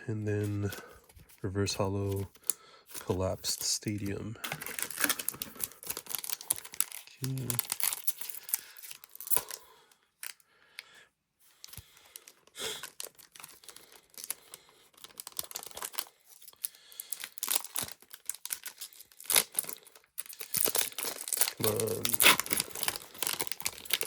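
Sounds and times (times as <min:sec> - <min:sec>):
foil pack tearing and crinkling: 0:03.0 - 0:10.4, 0:11.6 - 0:24.0.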